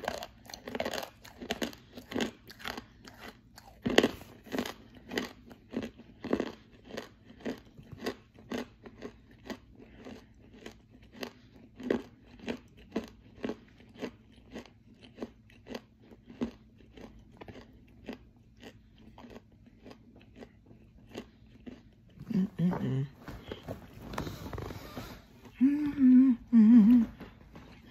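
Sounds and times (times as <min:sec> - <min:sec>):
person chewing crunchy food: 0:00.0 - 0:25.6.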